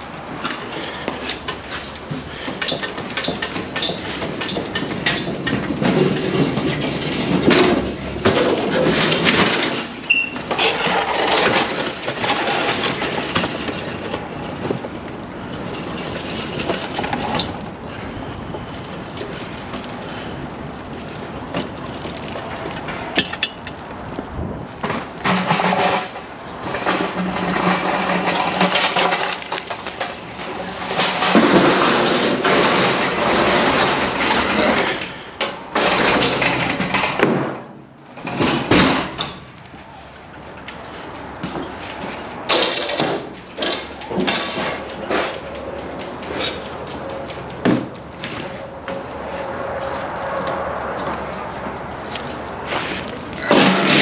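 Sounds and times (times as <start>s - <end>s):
freight rattling and clanking: 0.0s - 54.0s.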